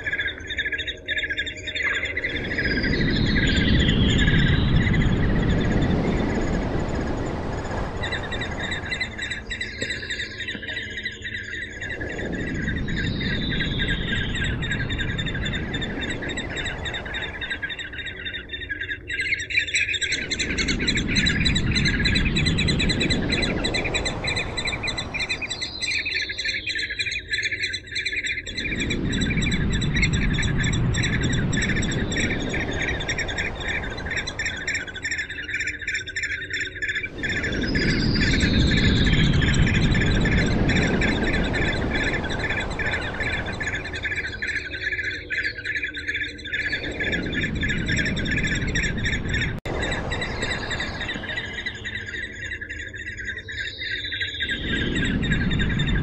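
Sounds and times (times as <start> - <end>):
rushing background noise: 0.0 - 26.8, 28.5 - 56.0
bird chattering calls: 8.0 - 56.0.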